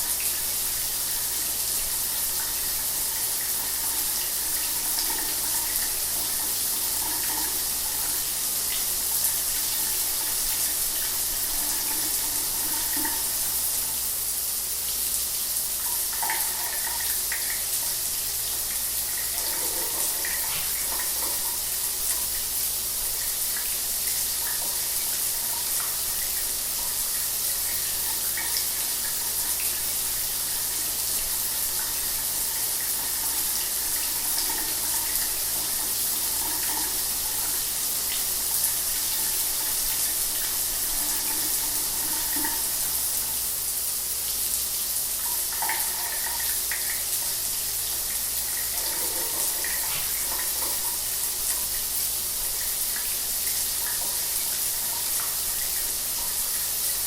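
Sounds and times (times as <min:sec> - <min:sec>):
shower water spray hissing: 0:00.0 - 0:57.0.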